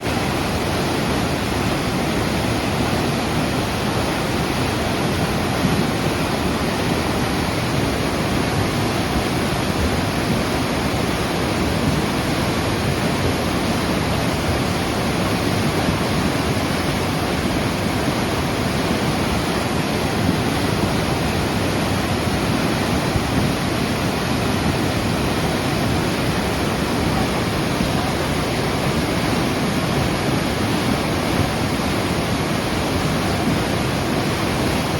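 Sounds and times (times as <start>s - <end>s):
flooded river roaring: 0.0s - 34.9s.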